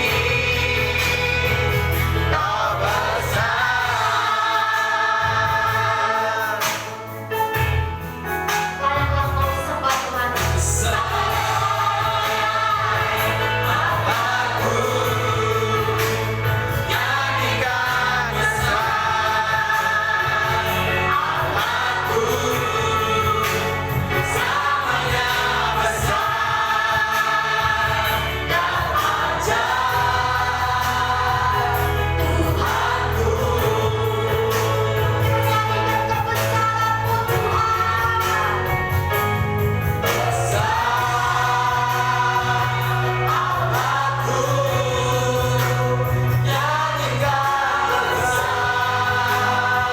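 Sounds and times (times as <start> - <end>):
band with steady bass: 0.0 - 49.9
congregation singing a gospel song: 0.0 - 49.9.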